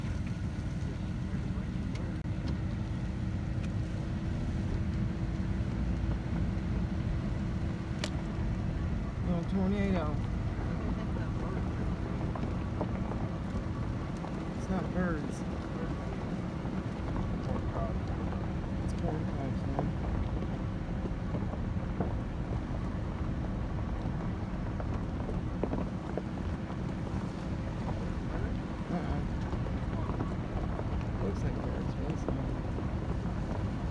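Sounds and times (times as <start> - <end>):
faint constant hum: 0.0 - 33.9
vehicle engine rumbling: 0.0 - 33.9.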